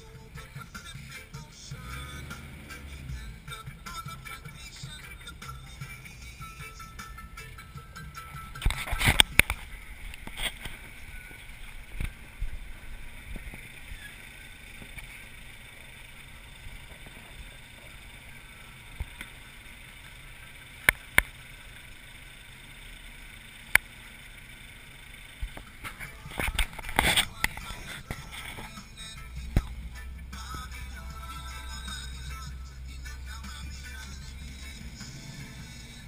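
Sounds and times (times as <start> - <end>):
truck engine low rumble: 0.0 - 36.0.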